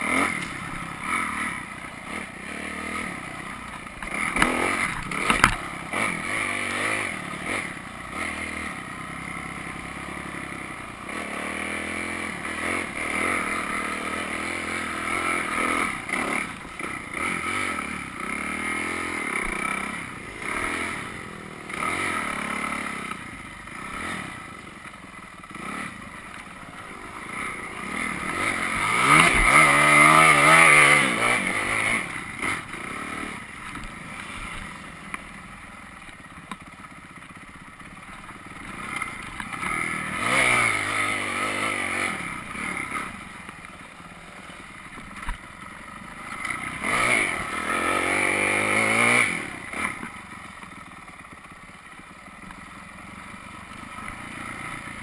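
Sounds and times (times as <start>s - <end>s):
dirt bike engine revving: 0.0s - 35.3s, 36.0s - 51.3s.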